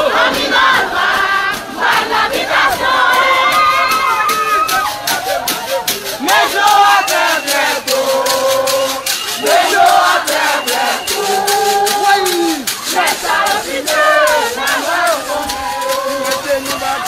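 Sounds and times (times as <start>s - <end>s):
crowd chanting and singing: 0.0s - 17.0s
rapid drum beat: 0.0s - 17.0s.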